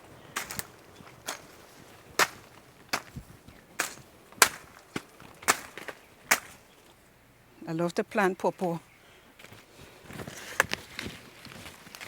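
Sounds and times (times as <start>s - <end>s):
footsteps crunching on dry ground: 0.0s - 7.1s, 8.5s - 12.0s.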